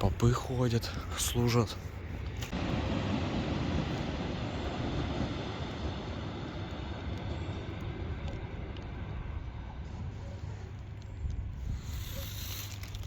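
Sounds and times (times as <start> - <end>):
electric train rumbling past: 0.0 - 13.0.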